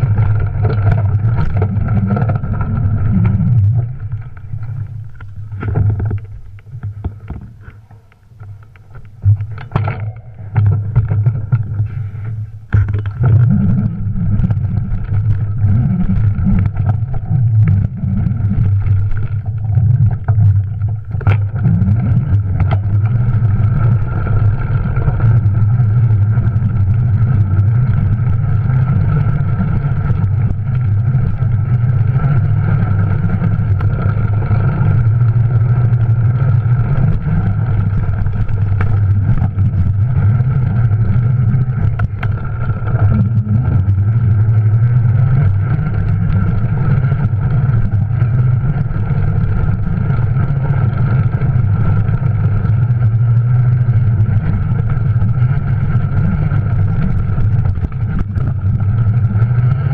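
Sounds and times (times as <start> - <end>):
bike rumbling over dirt trail: 0.0 - 59.9.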